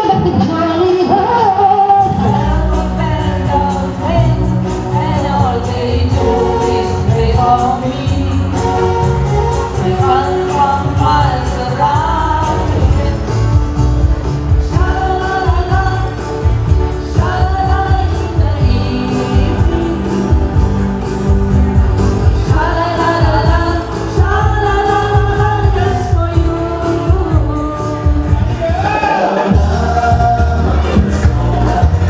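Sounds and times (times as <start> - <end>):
acoustic guitar: 0.0 - 32.0
electric guitar: 0.0 - 32.0
women singing into microphones: 0.0 - 32.0.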